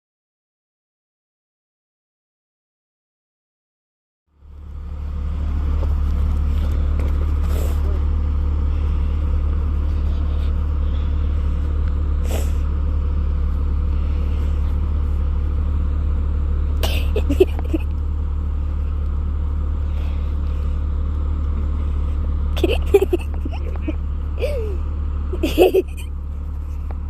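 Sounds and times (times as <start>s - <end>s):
vehicle engine droning in cab: 4.3s - 27.0s.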